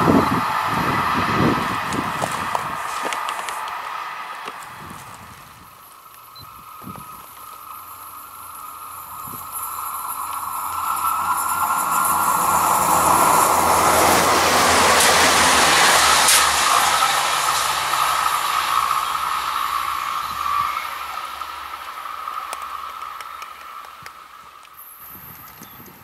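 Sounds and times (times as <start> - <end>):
train running past: 0.0 - 26.0.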